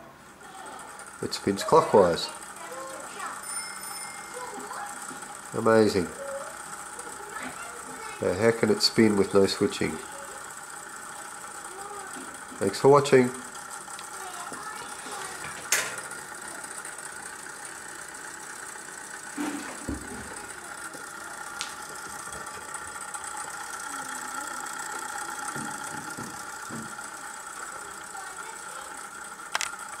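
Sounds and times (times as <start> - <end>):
motor buzzing rattle: 0.0 - 30.0.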